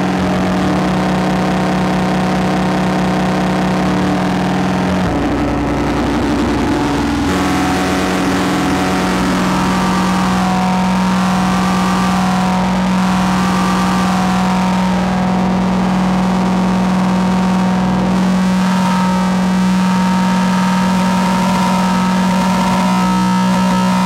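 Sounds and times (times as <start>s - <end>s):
distorted synthesizer drone: 0.0s - 24.0s.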